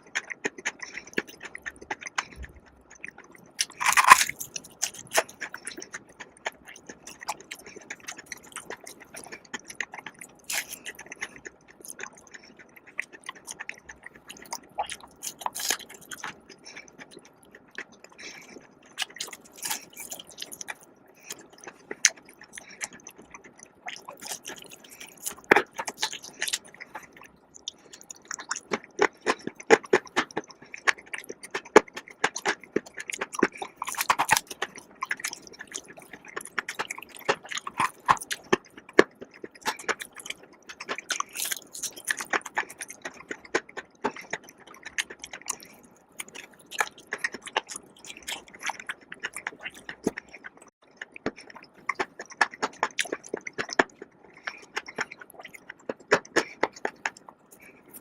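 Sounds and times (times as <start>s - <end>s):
crunchy food chewing: 0.0s - 58.0s
wet mouth clicks: 0.1s - 17.2s, 21.3s - 58.0s.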